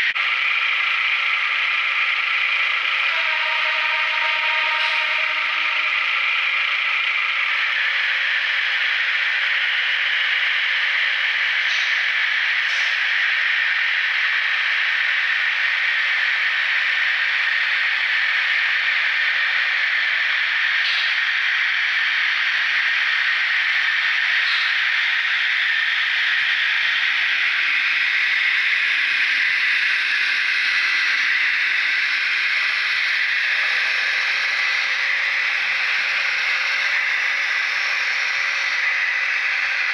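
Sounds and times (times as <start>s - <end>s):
model train running noise: 0.0s - 39.9s.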